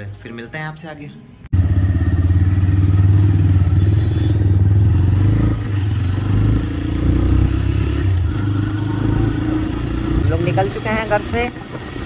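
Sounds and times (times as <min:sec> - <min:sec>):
motorcycle engine running: 0:01.5 - 0:12.0.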